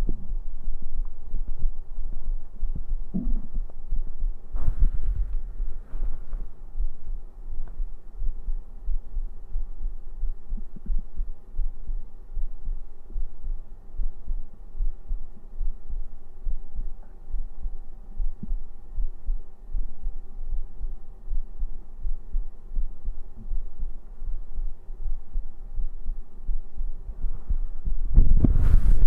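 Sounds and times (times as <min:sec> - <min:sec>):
heartbeat thumps: 0:00.0 - 0:29.0.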